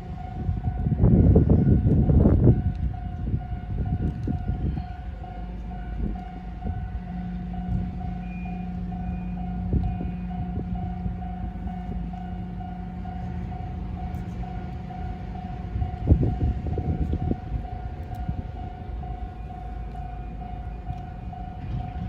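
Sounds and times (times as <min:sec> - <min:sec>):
level crossing warning signal: 0:00.0 - 0:22.0
low hum: 0:00.0 - 0:22.0.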